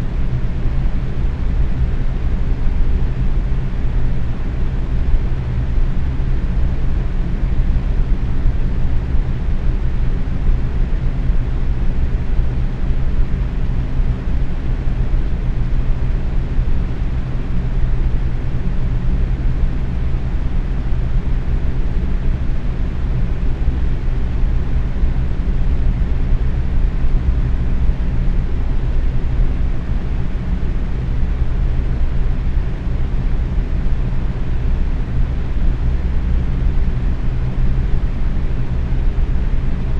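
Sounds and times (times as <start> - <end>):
faint motor hum: 0.0 - 39.9.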